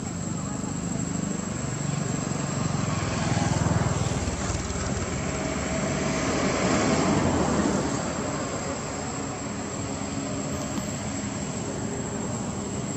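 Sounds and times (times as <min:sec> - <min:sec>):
distant engine drone: 0:00.0 - 0:12.9
steady rushing noise: 0:01.0 - 0:12.9.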